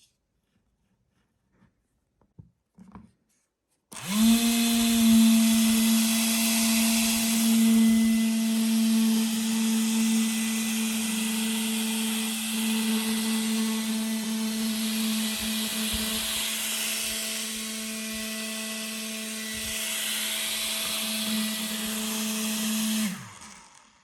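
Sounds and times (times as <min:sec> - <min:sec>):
small electric motor running: 0:03.9 - 0:24.0.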